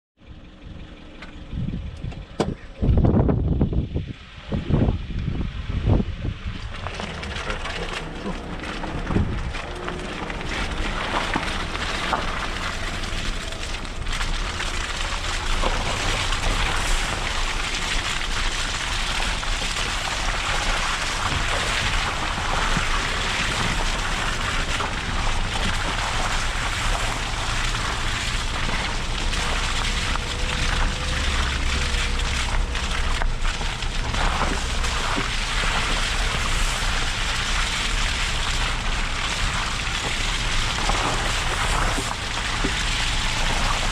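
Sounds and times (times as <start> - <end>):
engine and tyres rumbling: 0.2 - 43.9.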